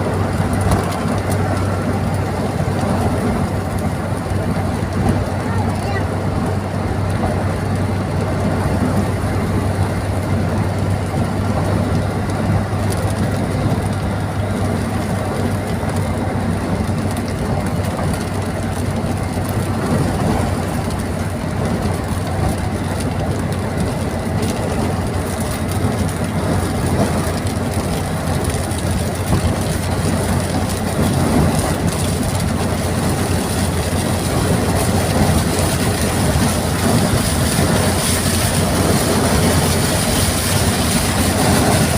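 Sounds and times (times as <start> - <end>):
moving vehicle drone: 0.0 - 41.9
road and wind noise: 0.0 - 41.9.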